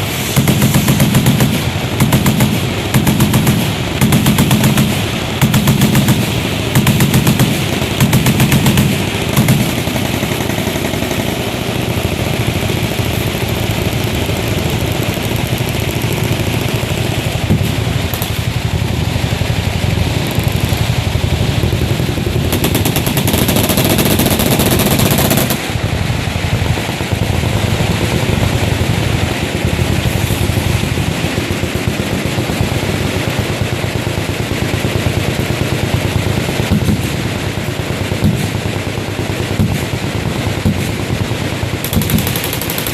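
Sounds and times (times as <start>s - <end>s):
machine guns firing full-auto: 0.0s - 42.9s.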